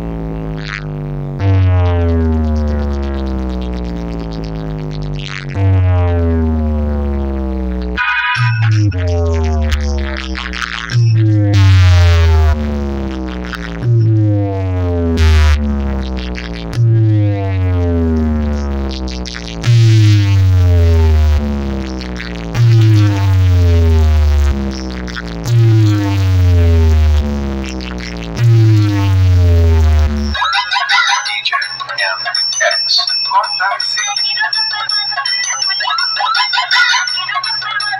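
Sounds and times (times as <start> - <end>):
electronic music on loudspeakers: 0.0 - 37.9.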